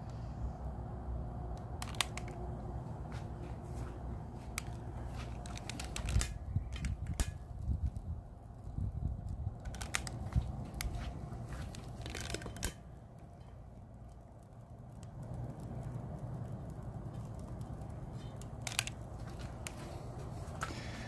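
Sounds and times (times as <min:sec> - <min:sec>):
paper crackling and popping as it burns: 0:01.5 - 0:21.0.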